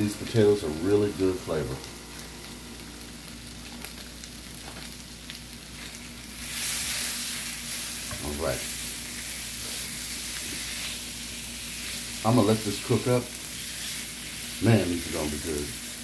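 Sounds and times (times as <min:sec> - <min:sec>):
bacon sizzling in a skillet: 0:00.0 - 0:16.0.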